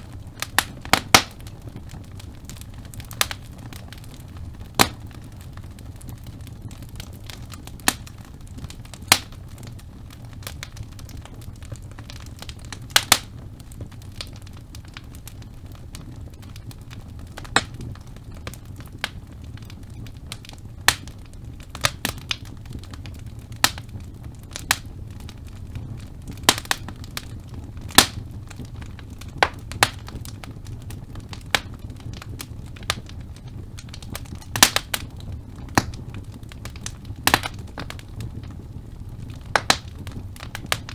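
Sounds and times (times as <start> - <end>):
burning logs popping and crackling: 0.0 - 40.9
low rumble of flames: 0.0 - 40.9.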